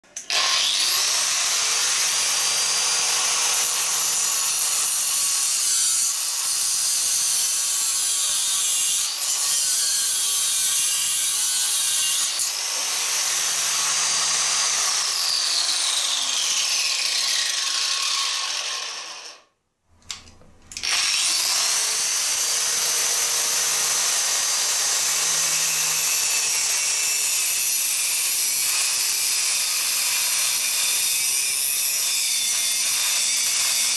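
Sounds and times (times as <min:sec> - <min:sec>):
angle grinder cutting metal: 0:00.1 - 0:19.5, 0:20.7 - 0:33.9.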